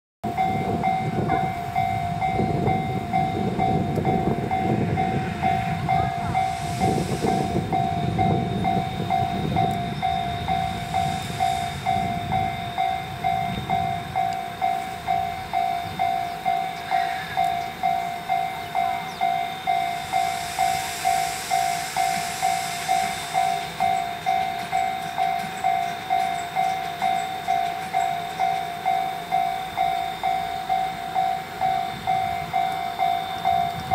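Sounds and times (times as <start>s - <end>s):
level crossing warning bell: 0.2s - 33.9s.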